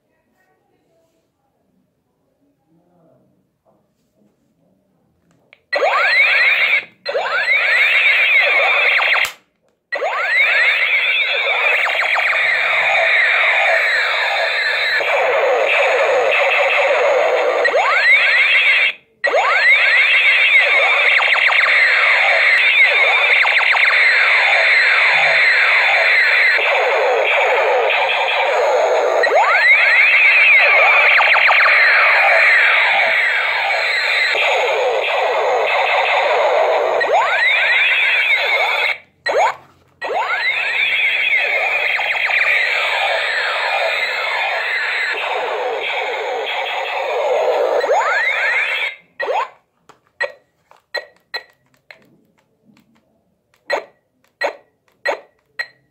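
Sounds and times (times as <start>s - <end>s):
toy laser gun zaps: 5.8s - 9.4s, 10.0s - 49.6s, 53.6s - 55.7s.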